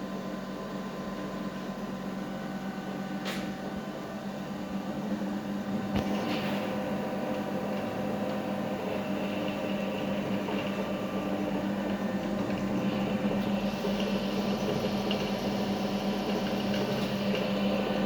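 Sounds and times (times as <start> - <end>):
grinding machine motor hum: 2.6 - 18.0.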